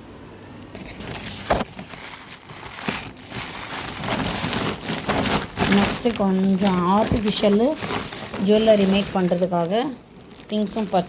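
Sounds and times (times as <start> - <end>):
plastic packaging crinkling: 0.7 - 11.0.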